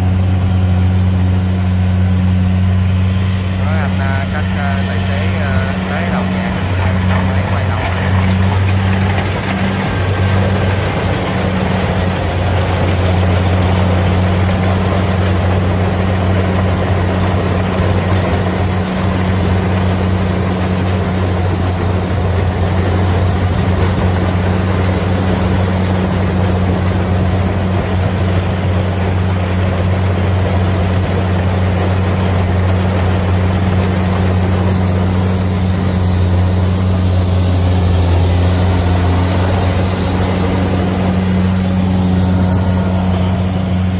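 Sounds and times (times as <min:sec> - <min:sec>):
combine harvester engine droning: 0:00.0 - 0:43.9.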